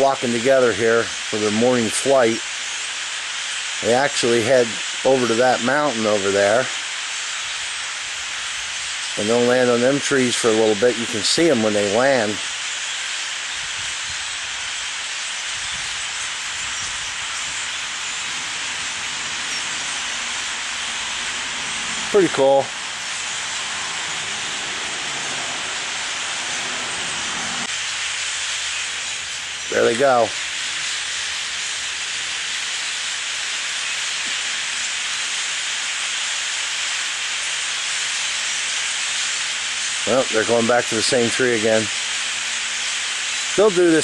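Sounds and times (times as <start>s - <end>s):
flock of blackbirds calling: 0.0s - 44.0s.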